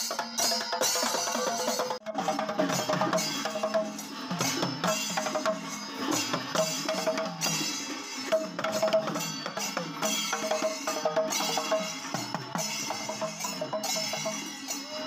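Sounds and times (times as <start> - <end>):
hand drums playing fast rhythm: 0.0 - 15.0.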